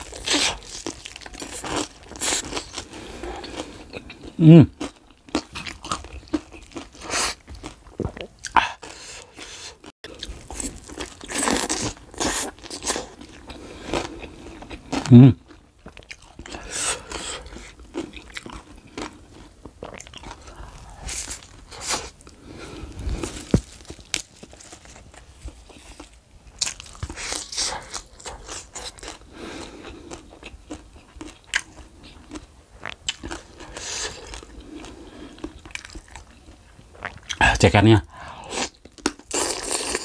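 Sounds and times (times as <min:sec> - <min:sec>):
crisp chewing crunches: 0:00.0 - 0:09.5, 0:10.1 - 0:22.4, 0:23.0 - 0:37.4.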